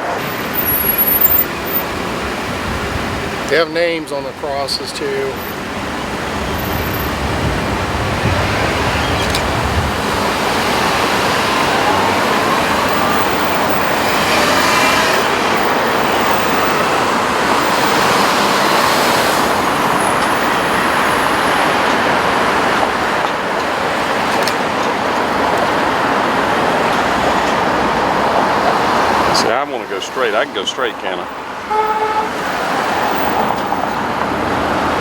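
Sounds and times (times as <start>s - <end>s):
car road and wind noise: 0.0s - 35.0s.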